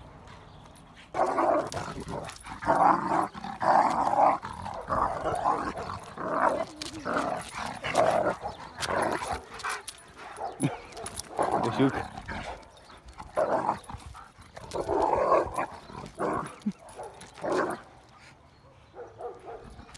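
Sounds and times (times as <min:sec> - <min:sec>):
dogs growling: 0:01.1 - 0:18.0.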